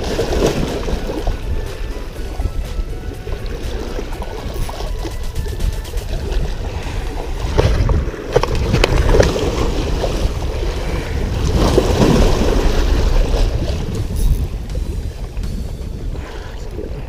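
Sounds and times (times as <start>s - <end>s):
moving water: 0.0s - 17.0s
wind rumbling on microphone: 0.0s - 17.0s.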